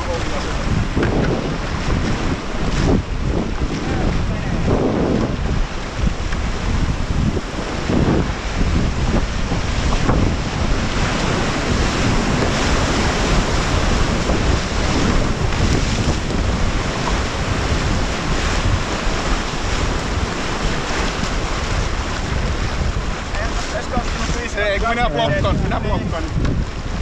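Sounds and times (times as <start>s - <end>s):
whitewater rapids roaring: 0.0s - 27.0s
wind buffeting microphone: 0.0s - 27.0s.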